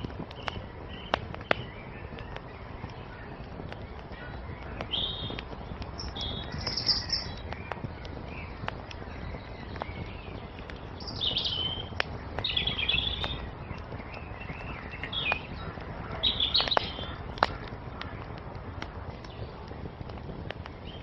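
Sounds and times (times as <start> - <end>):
burning wood popping: 0.0 - 21.0
songbirds chirping: 0.0 - 21.0
wood fire crackling: 0.0 - 21.0.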